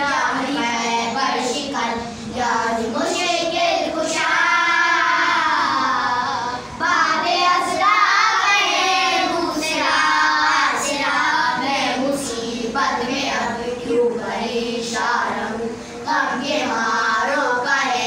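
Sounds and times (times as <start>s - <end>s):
children singing together: 0.0s - 18.0s.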